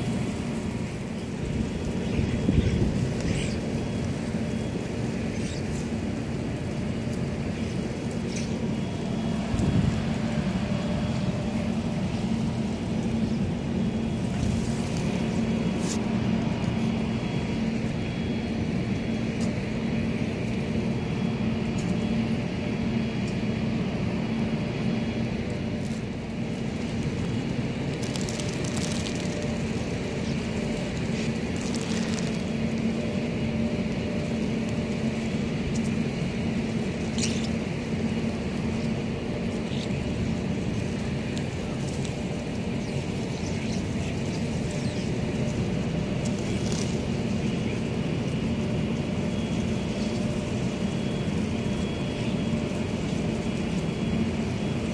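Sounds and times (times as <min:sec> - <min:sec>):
low mechanical hum: 0:00.0 - 0:54.9.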